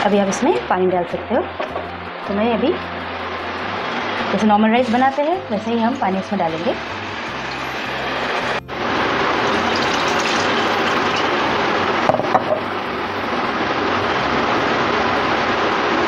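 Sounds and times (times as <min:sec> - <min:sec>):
pot of water heating on stove: 0:03.0 - 0:16.0.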